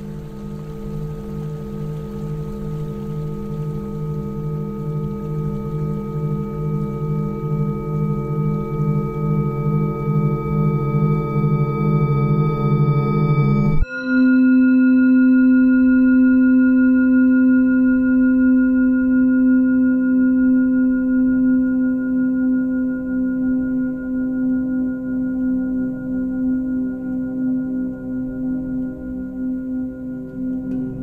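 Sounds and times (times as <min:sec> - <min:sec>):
singing bowl ringing: 0:00.0 - 0:31.0.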